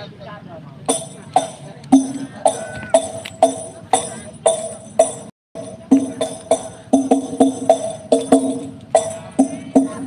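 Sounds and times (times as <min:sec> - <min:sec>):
frame drums with jingles: 0:00.8 - 0:10.0.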